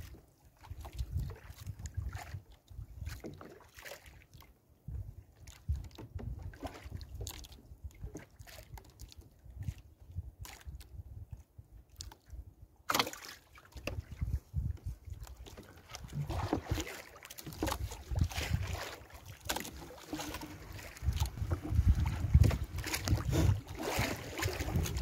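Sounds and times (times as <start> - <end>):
water sloshing around boat: 0.0 - 25.0.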